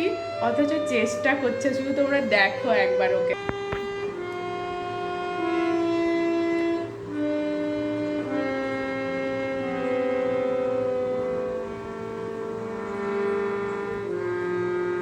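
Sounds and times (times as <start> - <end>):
harmonium notes: 0.0 - 15.0.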